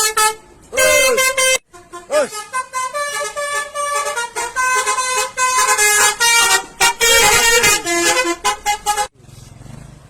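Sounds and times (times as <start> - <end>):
musical air horn melody: 0.0 - 9.1.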